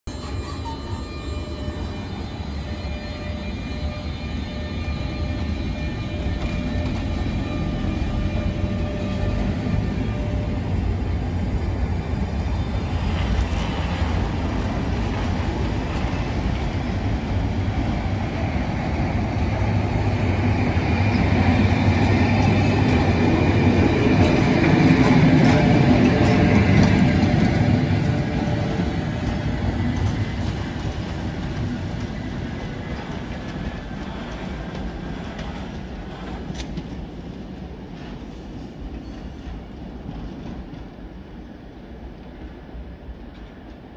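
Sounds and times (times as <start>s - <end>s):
train wheels rumbling on rails: 0.2s - 43.9s.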